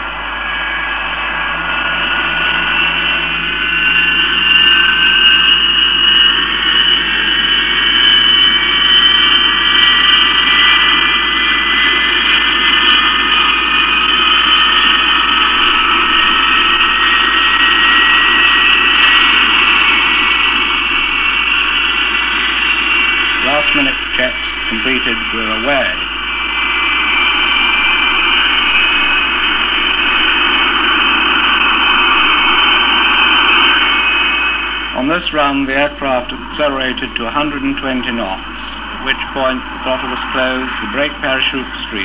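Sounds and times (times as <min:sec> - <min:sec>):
jet engine whine: 0:00.0 - 0:42.0.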